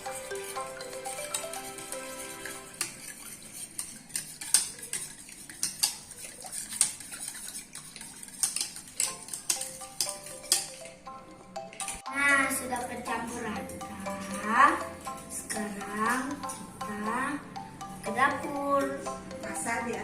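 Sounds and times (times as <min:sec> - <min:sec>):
utensil clinking against metal pot: 0:00.0 - 0:20.0.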